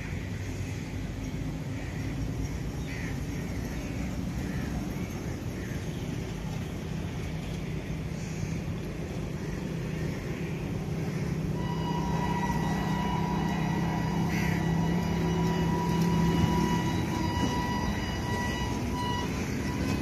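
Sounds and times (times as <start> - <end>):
distant diesel locomotive rumble: 0.0 - 20.0.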